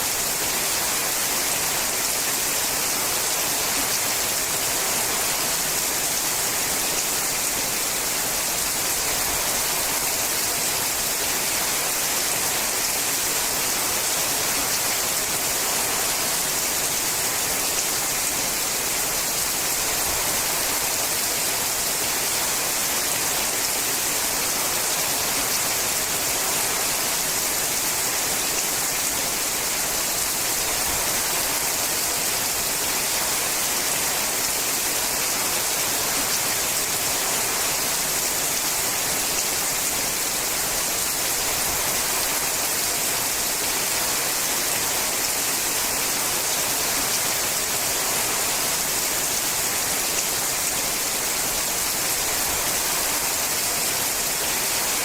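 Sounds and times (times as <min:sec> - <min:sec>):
heavy rain on metal roof: 0:00.0 - 0:55.0.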